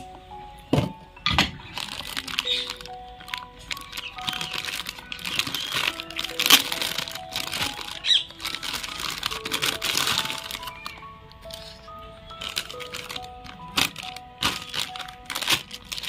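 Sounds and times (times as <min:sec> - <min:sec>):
background music with held notes: 0:00.0 - 0:16.0
plastic bag crinkling: 0:01.3 - 0:16.0.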